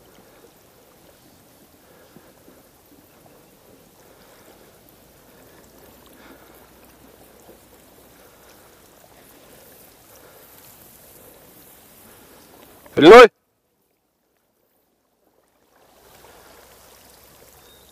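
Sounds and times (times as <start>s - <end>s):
faint water: 0.0s - 17.9s
small rustles and ticks: 0.0s - 17.9s.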